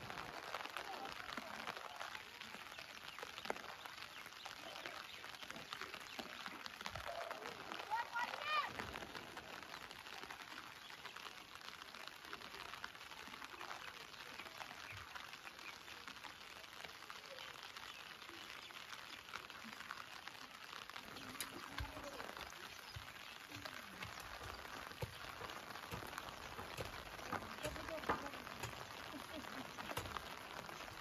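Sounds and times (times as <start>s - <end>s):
light rain patter: 0.0s - 31.0s.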